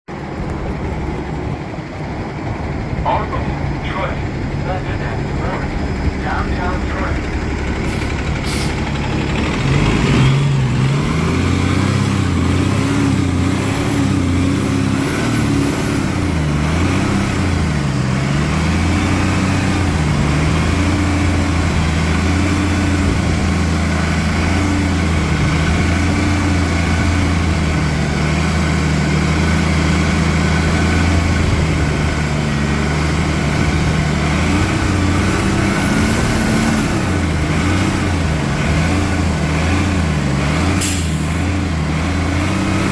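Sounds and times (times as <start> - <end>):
diesel bus engine revving: 0.1 - 42.9.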